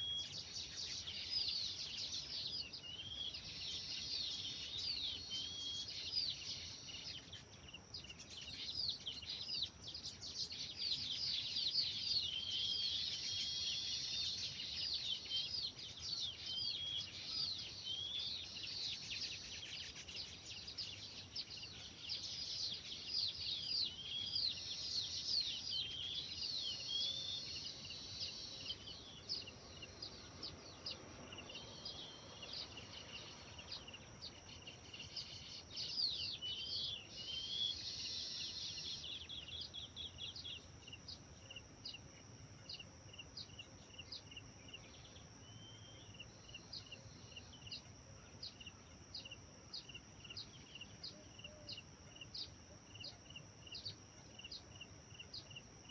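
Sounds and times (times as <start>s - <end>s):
birds singing and chirping: 0.0s - 55.9s.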